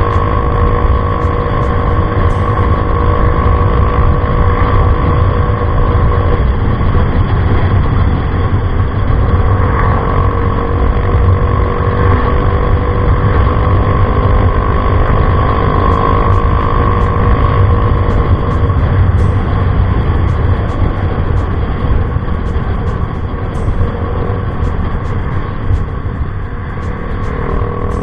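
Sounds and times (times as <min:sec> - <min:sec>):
scooter engine running: 0:00.0 - 0:28.0.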